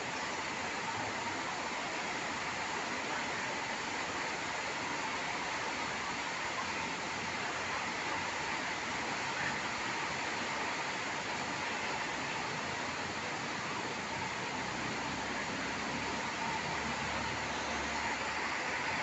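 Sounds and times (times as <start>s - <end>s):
heavy rain on pavement and cars: 0.0s - 19.0s.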